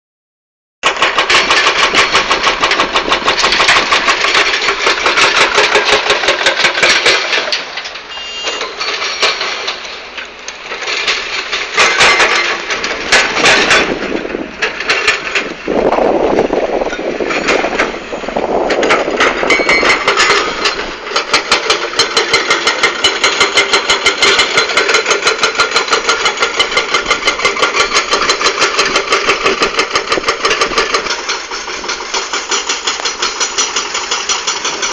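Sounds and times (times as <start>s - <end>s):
excavator diesel engine: 0.8s - 34.9s
hydraulic rock breaker hammering: 0.8s - 34.9s.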